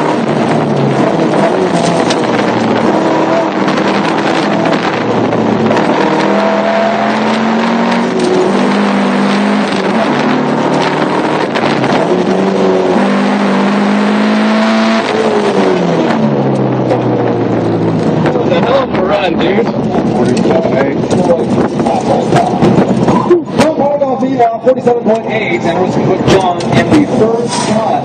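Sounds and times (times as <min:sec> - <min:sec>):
car engine revving: 0:00.0 - 0:28.0
road and wind noise: 0:00.0 - 0:28.0.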